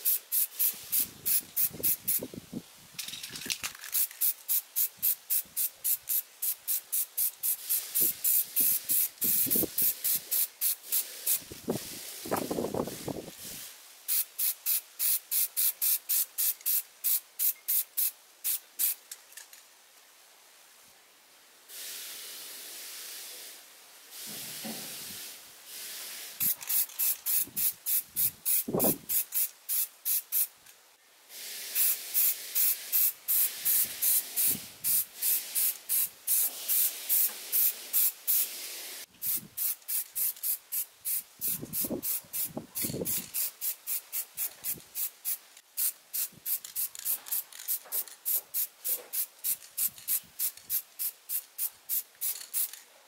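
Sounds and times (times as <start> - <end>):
spray paint can hissing: 0.0 - 2.3, 3.0 - 19.0, 21.7 - 23.4, 24.2 - 30.5, 31.4 - 52.8.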